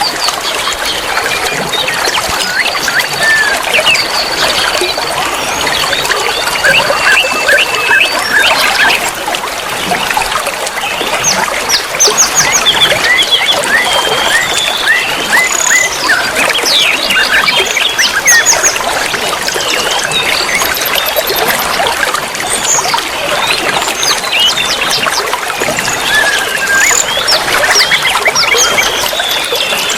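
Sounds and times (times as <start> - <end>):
trickling water: 0.0 - 29.9.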